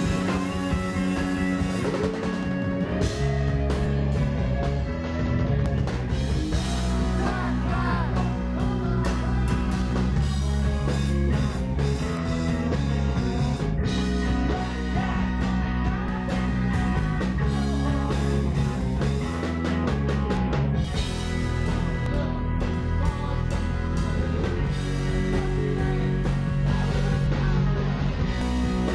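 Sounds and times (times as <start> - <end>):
live rock band playing: 0.0 - 28.9.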